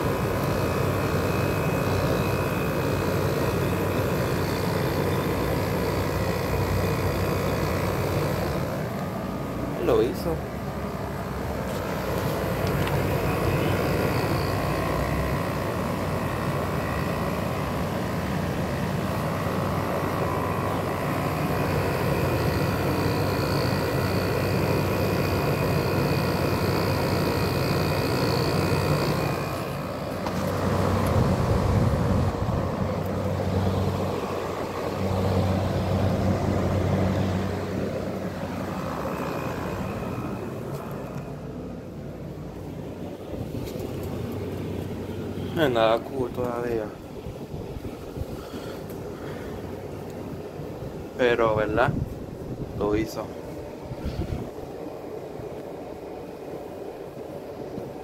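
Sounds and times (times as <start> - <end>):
air conditioner compressor humming: 0.0 - 58.0
faint whines: 0.0 - 58.0
fan whooshing: 0.0 - 58.0.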